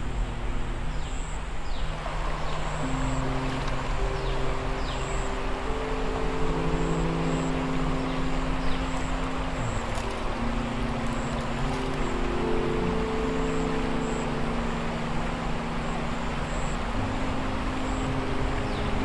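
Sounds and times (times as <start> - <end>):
creek water rushing: 0.0 - 19.0
drone of low held notes: 0.0 - 19.0.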